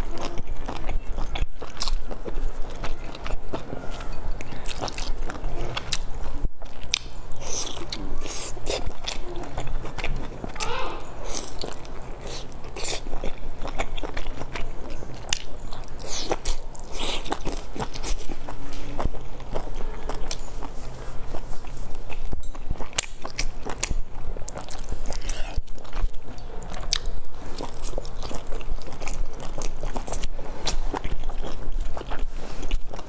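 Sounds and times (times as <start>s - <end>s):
person chewing dumplings: 0.0s - 33.0s.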